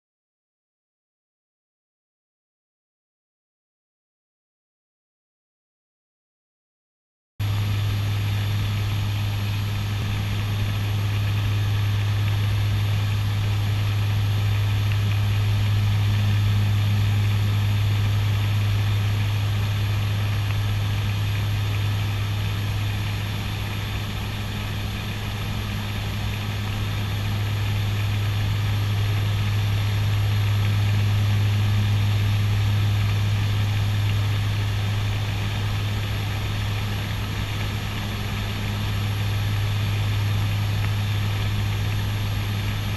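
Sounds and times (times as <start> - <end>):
constant cockpit hiss: 7.4 - 42.9
turboprop engines droning: 7.4 - 42.9.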